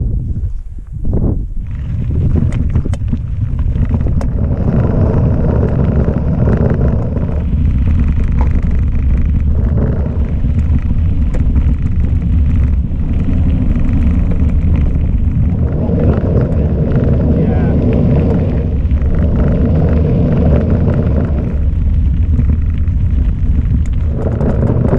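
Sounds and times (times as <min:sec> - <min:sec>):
wind buffeting microphone: 0:00.0 - 0:24.9
tyre rumble on gravel: 0:01.6 - 0:24.9
sharp ticks from stones: 0:01.7 - 0:24.9.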